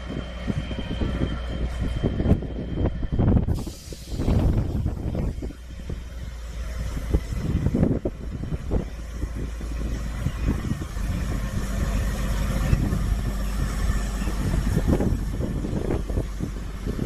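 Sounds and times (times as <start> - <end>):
diesel locomotive running: 0.0 - 17.0.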